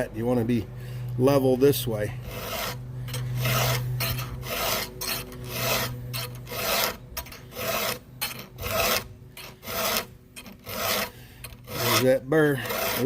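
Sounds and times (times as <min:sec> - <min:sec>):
file strokes on chainsaw chain: 0:02.2 - 0:13.0.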